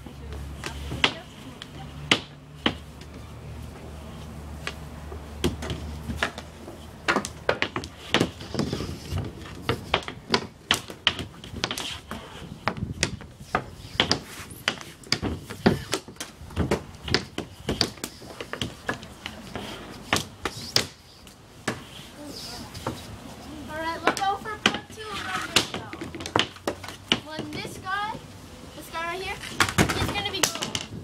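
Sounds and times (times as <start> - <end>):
hockey sticks and ball clacking: 0.3 - 3.2, 4.6 - 23.2, 23.8 - 28.1, 28.8 - 31.0.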